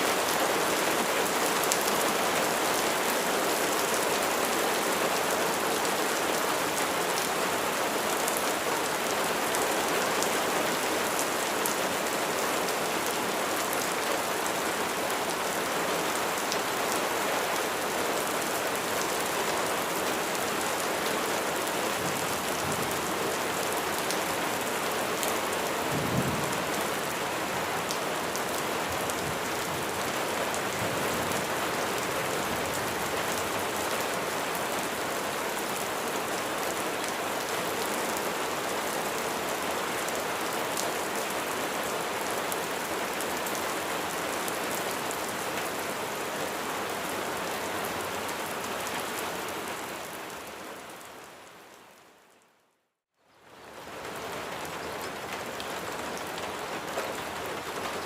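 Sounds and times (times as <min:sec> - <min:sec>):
rain pattering on a surface: 0:00.0 - 0:49.2, 0:53.3 - 0:58.0.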